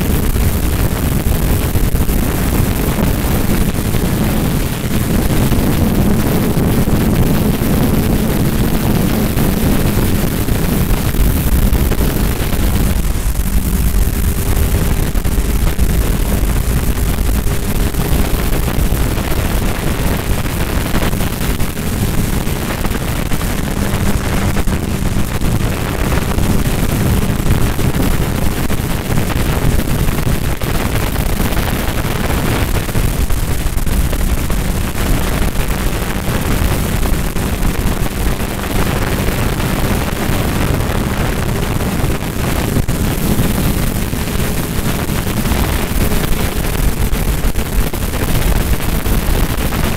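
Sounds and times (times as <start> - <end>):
motorcycle engine droning: 0.0 - 49.9
wind rushing over microphone: 0.0 - 49.9.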